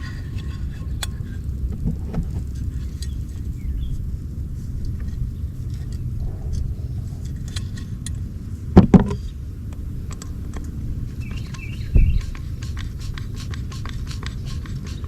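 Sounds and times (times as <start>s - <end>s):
steady low rumble: 0.0s - 14.4s.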